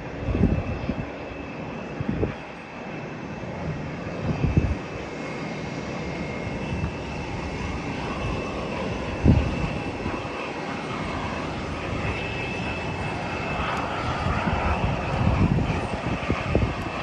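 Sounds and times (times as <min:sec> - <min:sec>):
airliner engines running: 0:00.0 - 0:17.0
wind buffeting microphone: 0:00.0 - 0:17.0.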